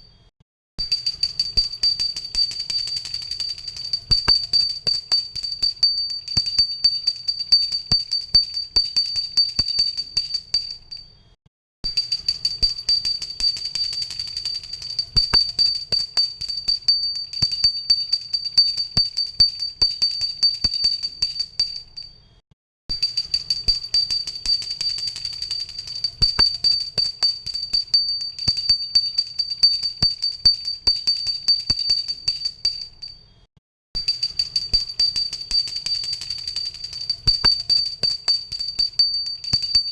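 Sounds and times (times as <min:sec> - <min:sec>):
bell rung rapidly: 0:00.8 - 0:11.0, 0:11.9 - 0:22.1, 0:23.0 - 0:33.2, 0:34.0 - 0:39.9.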